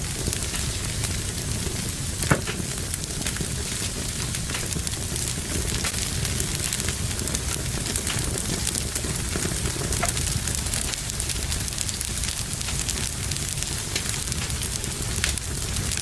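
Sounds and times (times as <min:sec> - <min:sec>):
fire crackling and popping: 0:00.0 - 0:16.0
rushing rumble of flame: 0:00.0 - 0:16.0.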